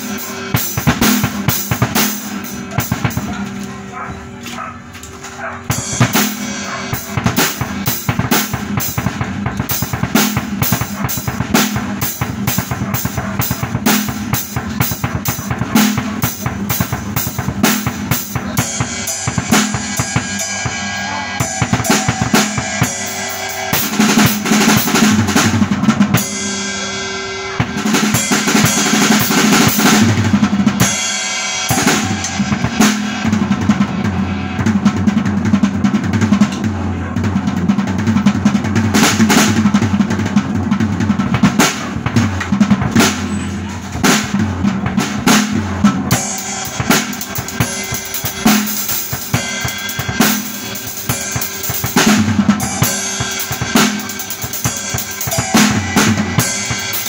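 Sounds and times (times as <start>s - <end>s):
acoustic drum kit played with sticks: 0.0s - 57.0s.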